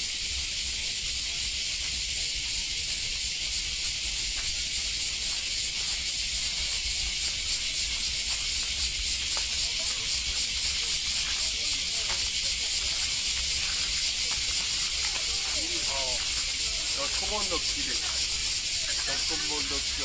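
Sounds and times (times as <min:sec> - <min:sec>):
high outdoor hiss: 0:00.0 - 0:20.0.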